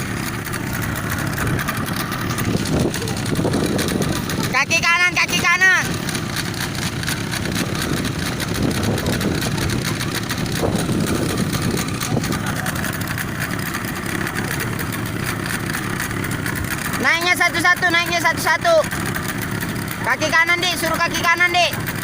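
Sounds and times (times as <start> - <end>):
motorboat engine idling: 0.0 - 22.0.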